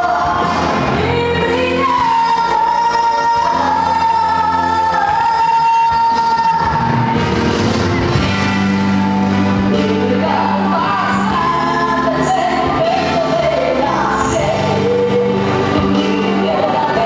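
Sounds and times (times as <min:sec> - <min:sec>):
girl singing into a microphone: 0:00.0 - 0:06.9, 0:09.7 - 0:17.0
instrumental accompaniment: 0:00.0 - 0:17.0.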